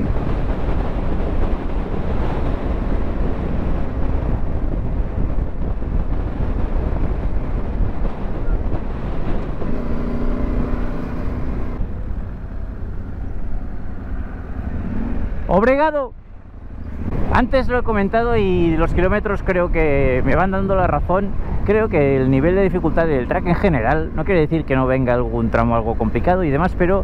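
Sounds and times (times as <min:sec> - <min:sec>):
wind rush over microphone: 0:00.0 - 0:27.0.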